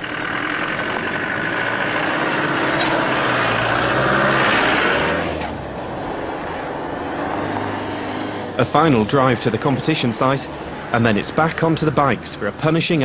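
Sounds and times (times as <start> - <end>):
diesel engine passing: 0.0 - 13.0
tyres on gravel: 0.0 - 13.0.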